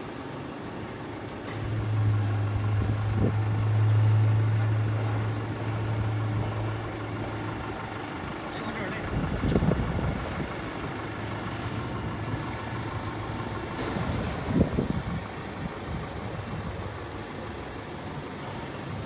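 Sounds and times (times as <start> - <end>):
low engine rumble: 0.0 - 19.0
truck diesel engine idling: 0.0 - 19.0.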